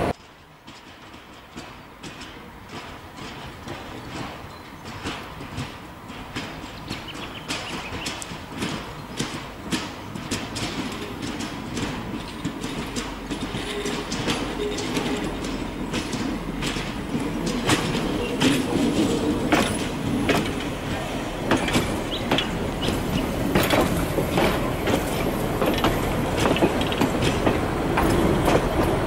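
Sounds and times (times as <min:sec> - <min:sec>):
train wheels clicking over rail joints: 0:00.0 - 0:29.0.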